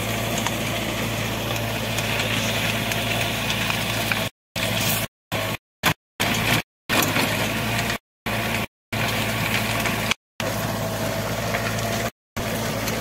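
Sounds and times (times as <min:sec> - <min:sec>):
rotary tiller working soil: 0:00.0 - 0:13.0
tractor diesel engine running: 0:00.0 - 0:13.0.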